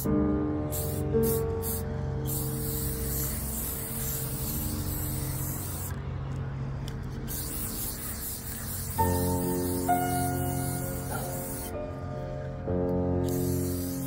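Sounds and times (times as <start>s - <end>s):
aerosol can spraying: 0.7s - 6.0s, 6.9s - 12.4s, 13.2s - 14.0s.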